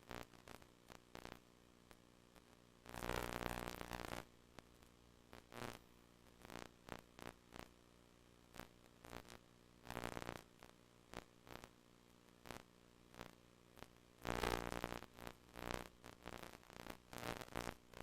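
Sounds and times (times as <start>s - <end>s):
static bursts and crackles: 0.0s - 18.0s.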